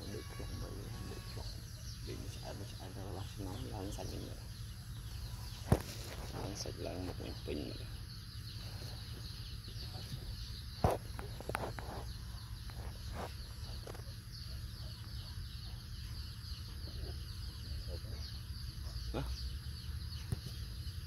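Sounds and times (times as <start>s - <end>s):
faint bird calls: 0.0s - 21.0s.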